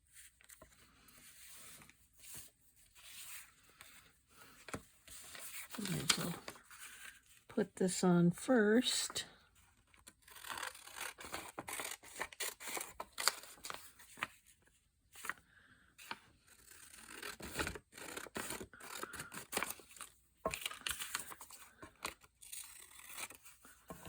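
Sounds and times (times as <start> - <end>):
paper rustling: 0.0 - 7.5, 9.7 - 15.4, 16.0 - 24.0.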